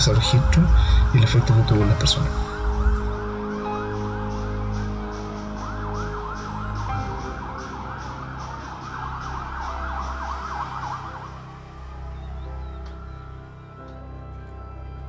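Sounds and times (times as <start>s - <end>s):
siren yelping: 0.0s - 14.0s.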